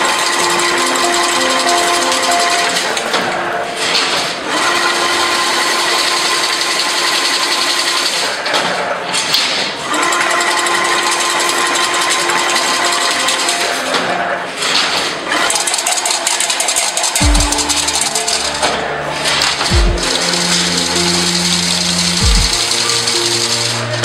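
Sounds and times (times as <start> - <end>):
fence weaving machine clattering: 0.0 - 24.0.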